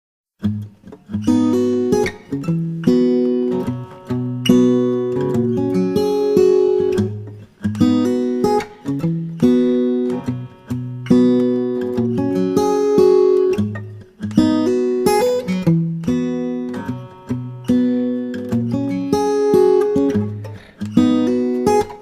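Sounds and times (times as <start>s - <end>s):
acoustic guitar strumming: 0.4s - 22.0s.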